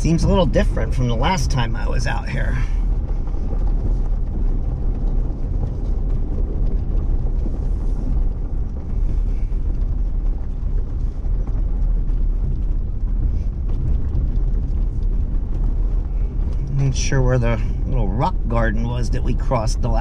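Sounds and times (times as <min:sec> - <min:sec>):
jeep engine rumble: 0:00.0 - 0:20.0
tyres rolling over gravel: 0:00.0 - 0:20.0.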